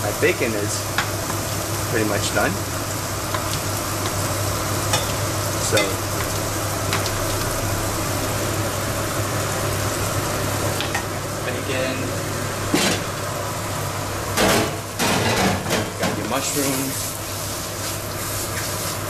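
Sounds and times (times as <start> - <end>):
bacon sizzling in frying pan: 0.0 - 19.0.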